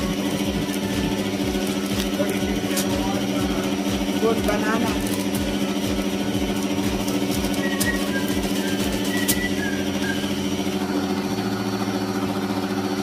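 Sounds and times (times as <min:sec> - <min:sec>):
stand mixer whisking: 0:00.0 - 0:13.0.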